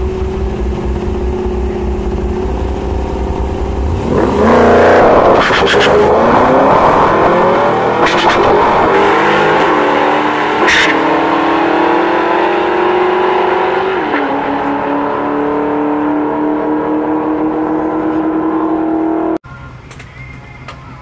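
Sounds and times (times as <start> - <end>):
racing car engines accelerating: 0.0 - 19.4.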